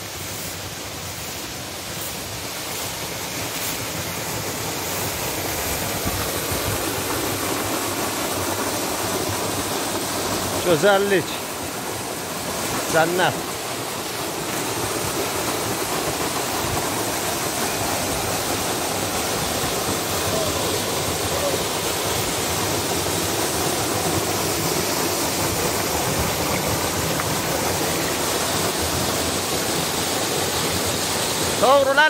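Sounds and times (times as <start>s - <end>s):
waterfall splashing into pool: 0.0s - 32.0s.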